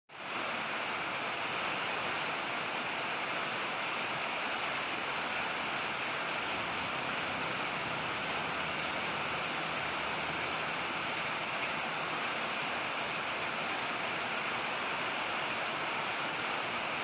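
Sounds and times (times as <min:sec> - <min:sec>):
steady rain falling: 0:00.1 - 0:17.0.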